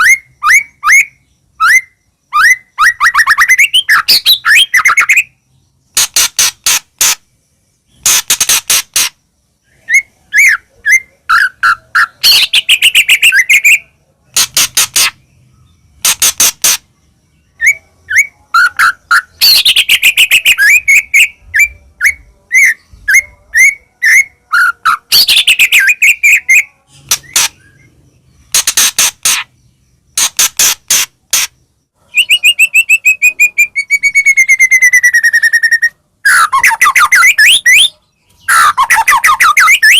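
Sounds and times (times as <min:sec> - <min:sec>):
songbird singing rapid sharp notes: 0:00.0 - 0:39.9.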